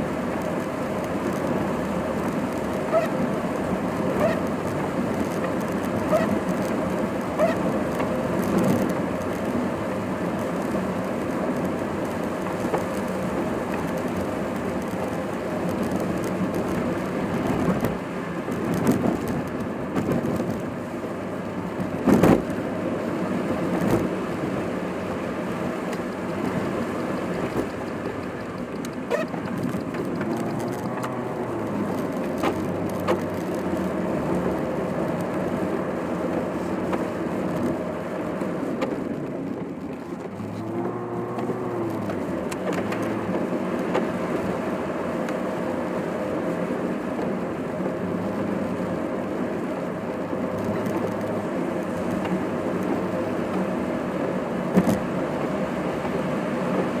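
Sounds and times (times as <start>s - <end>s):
car engine: 0.0s - 57.0s
road noise inside car: 0.0s - 57.0s.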